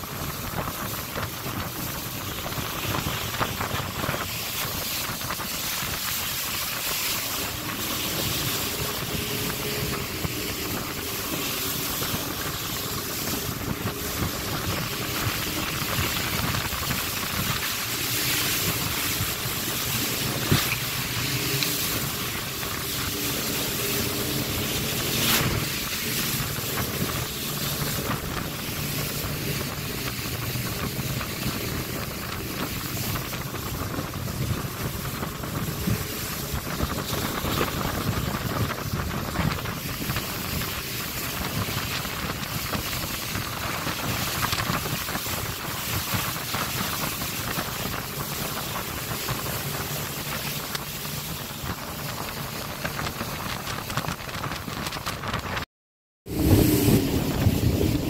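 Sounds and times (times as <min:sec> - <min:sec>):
outboard motor running: 0:00.0 - 0:55.6, 0:56.2 - 0:58.0
water rushing along hull: 0:00.0 - 0:55.7, 0:56.3 - 0:58.0
wind buffeting microphone: 0:00.0 - 0:55.7, 0:56.3 - 0:58.0.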